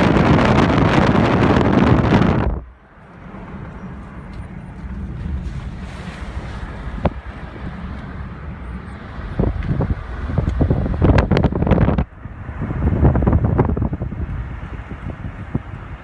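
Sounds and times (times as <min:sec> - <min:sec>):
low rumbling noise: 0:00.0 - 0:16.0
wind buffeting microphone: 0:00.0 - 0:16.0.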